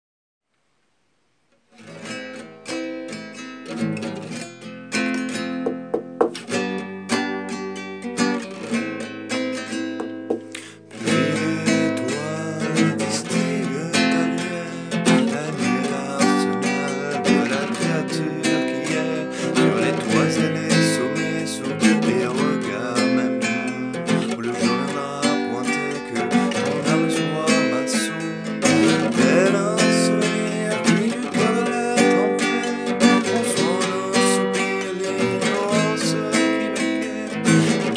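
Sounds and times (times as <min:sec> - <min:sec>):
acoustic guitar playing: 0:01.5 - 0:37.9.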